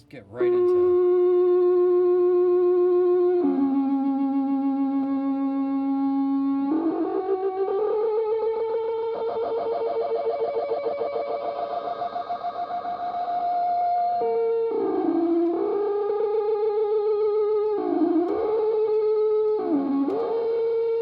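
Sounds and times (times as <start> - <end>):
buzzy acoustic feedback tone: 0.0 - 21.0.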